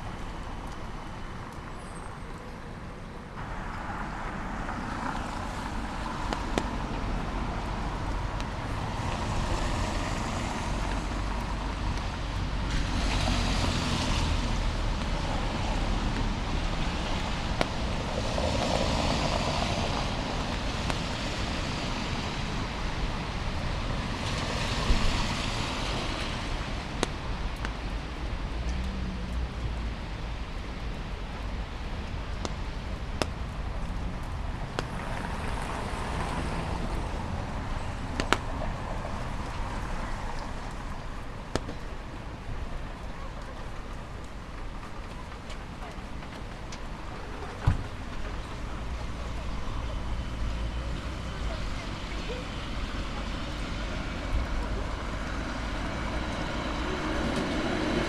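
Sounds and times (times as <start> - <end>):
cars passing on wet asphalt: 0.0 - 58.0.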